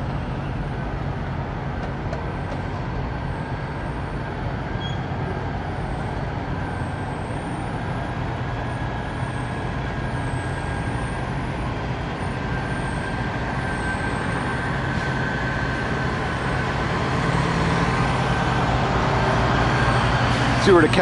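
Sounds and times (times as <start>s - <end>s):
diesel truck engines rumbling: 0.0s - 21.0s.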